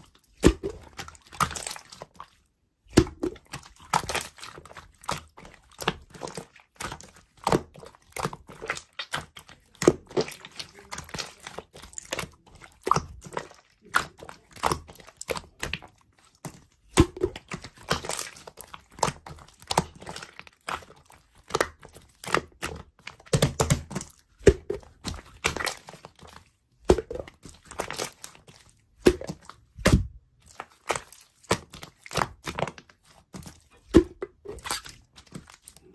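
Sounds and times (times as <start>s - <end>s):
slime squishing with sticky clicks: 0.0s - 35.9s.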